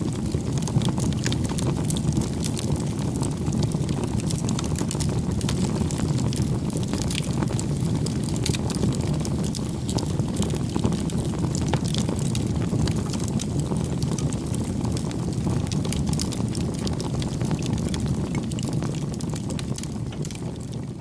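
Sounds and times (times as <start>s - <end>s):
campfire crackling: 0.0s - 21.0s
fire popping and snapping: 0.0s - 21.0s.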